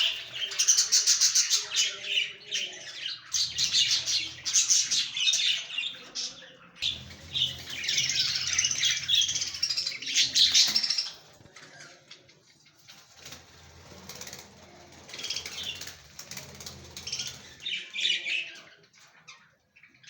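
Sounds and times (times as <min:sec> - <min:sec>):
parrots chirping and chattering: 0:00.0 - 0:20.0.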